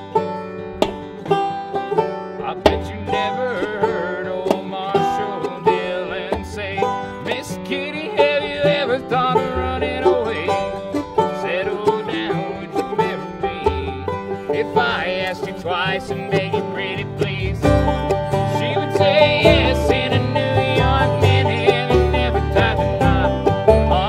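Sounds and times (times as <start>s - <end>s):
bluegrass string band playing: 0.0s - 24.0s
picked banjo: 0.0s - 24.0s
plucked upright bass: 0.0s - 24.0s.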